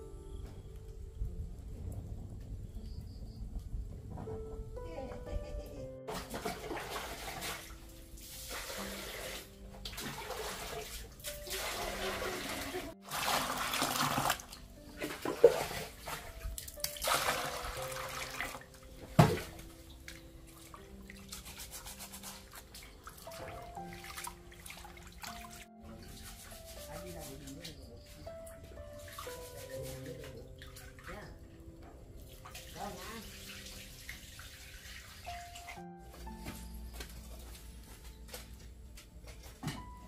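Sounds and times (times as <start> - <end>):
soft background music: 0.0 - 40.0
water pouring and splashing: 6.0 - 38.6.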